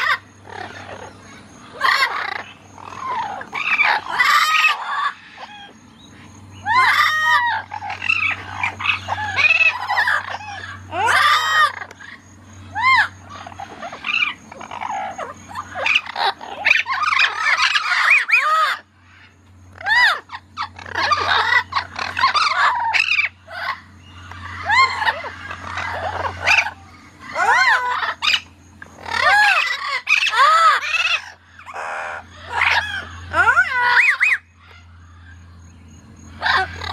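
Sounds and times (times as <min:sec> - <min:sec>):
parrots squawking and whistling: 0:00.0 - 0:36.9
steady low hum: 0:00.0 - 0:36.9.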